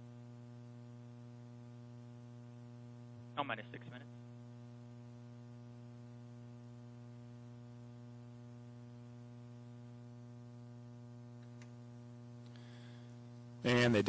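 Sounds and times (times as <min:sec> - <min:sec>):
low electrical mains hum: 0:00.0 - 0:14.0.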